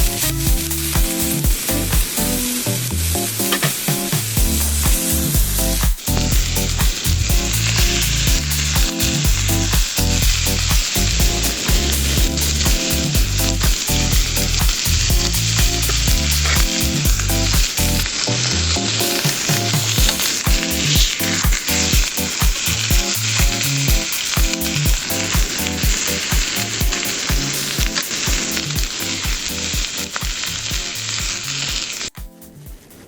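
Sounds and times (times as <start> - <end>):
food sizzling in a pan: 0.0 - 18.1, 18.9 - 32.2.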